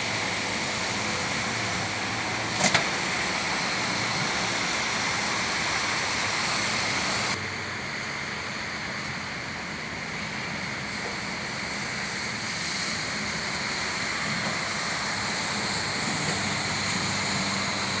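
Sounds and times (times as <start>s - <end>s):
city traffic: 0.0s - 18.0s
steady rain hiss: 0.0s - 18.0s.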